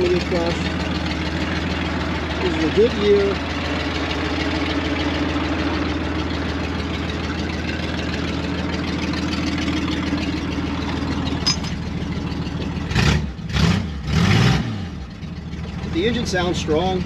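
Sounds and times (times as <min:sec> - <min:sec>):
engine revving: 0:00.0 - 0:11.6, 0:12.2 - 0:17.0
car engine idling: 0:00.0 - 0:17.0.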